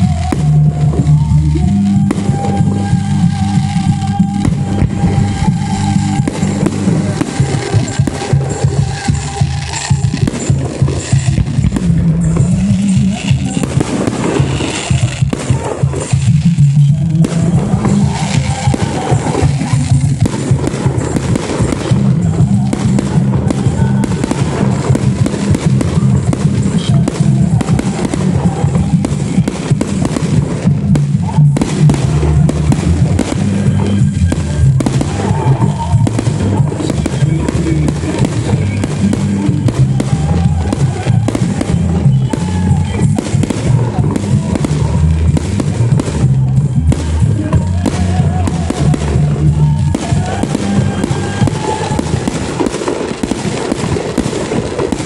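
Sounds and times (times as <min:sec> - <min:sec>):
fireworks bangs and crackle: 0:00.0 - 0:55.0
loud music with heavy bass: 0:00.0 - 0:55.0.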